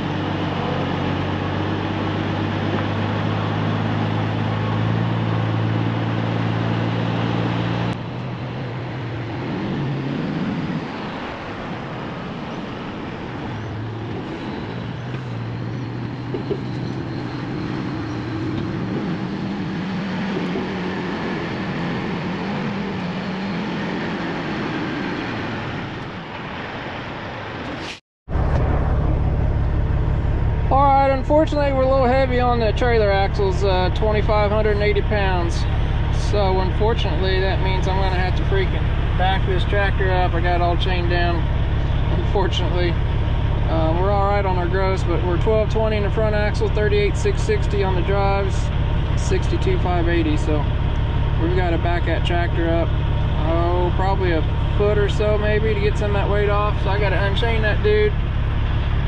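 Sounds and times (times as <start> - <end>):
truck diesel engine droning: 0.0 - 27.7, 28.3 - 59.0.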